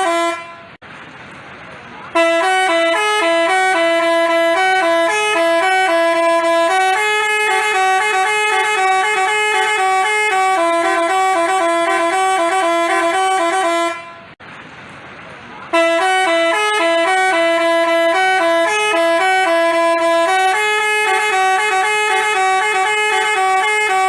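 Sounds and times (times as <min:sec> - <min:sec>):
musical bus horn playing tune: 0:00.0 - 0:00.8, 0:02.1 - 0:14.4, 0:15.7 - 0:24.0.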